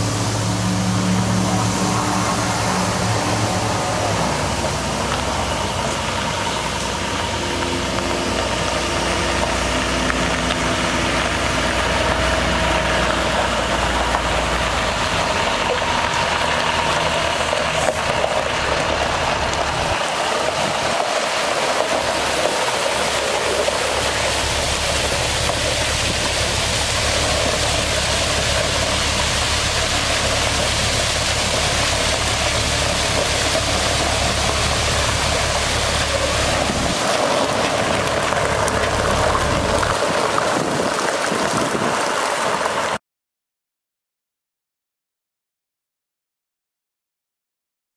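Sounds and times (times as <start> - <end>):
water spraying hiss: 0.0 - 42.9
diesel engine running: 0.0 - 43.0.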